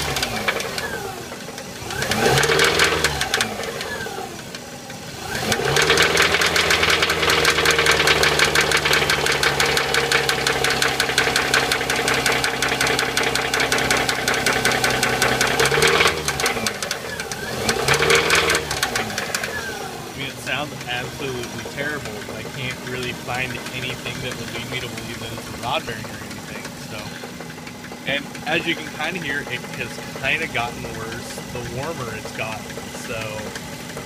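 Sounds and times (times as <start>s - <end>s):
car engine revving with knocking: 0.0s - 34.0s.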